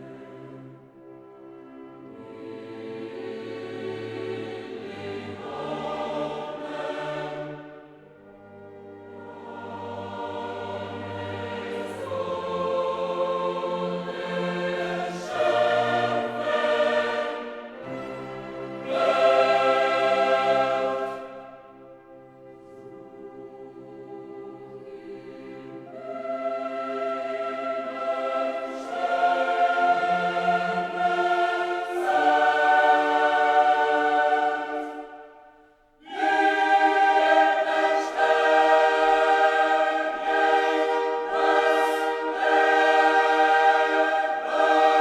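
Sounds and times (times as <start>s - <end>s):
choir singing held chords: 0.0s - 45.0s.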